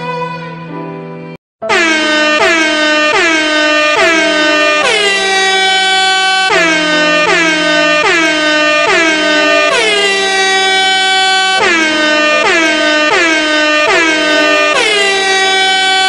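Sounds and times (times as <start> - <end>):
air horn blasts: 1.6 - 16.0.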